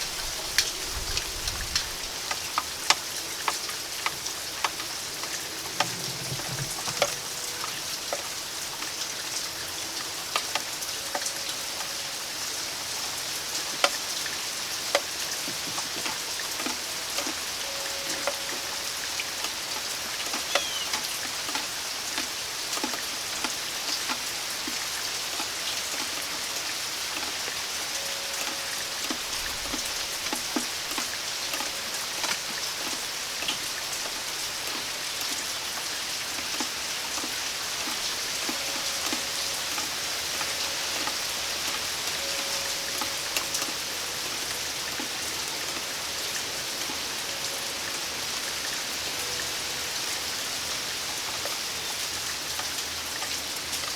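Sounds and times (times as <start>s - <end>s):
raindrops ticking close by: 0.0s - 53.9s
steady rain falling: 0.0s - 53.9s.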